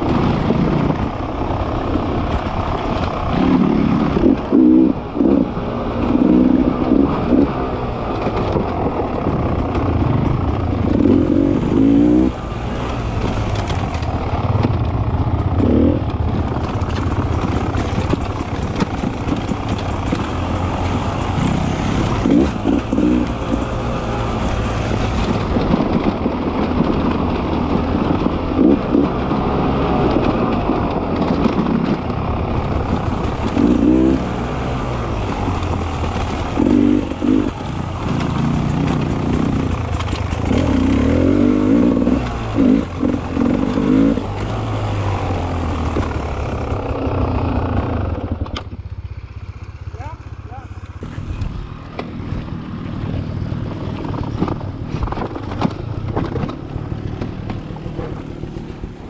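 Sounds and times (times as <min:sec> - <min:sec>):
motorcycle engine revving under load: 0:00.0 - 0:59.0.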